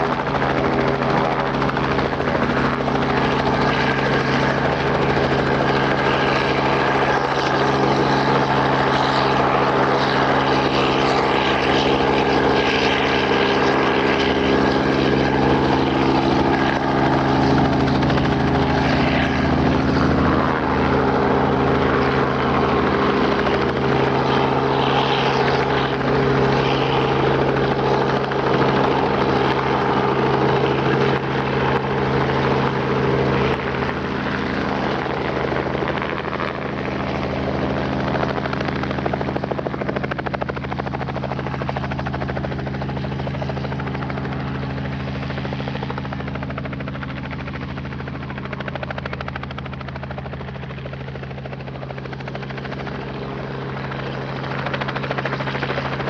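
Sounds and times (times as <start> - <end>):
helicopter hovering: 0.0 - 56.0.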